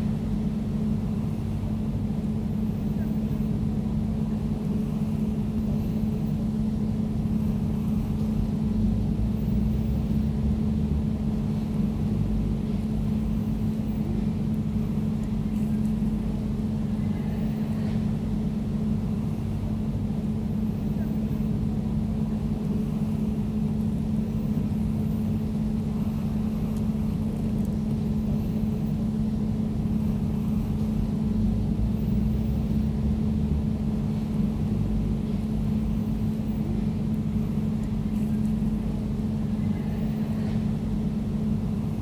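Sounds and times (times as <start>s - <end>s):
air conditioner humming: 0.0s - 42.0s.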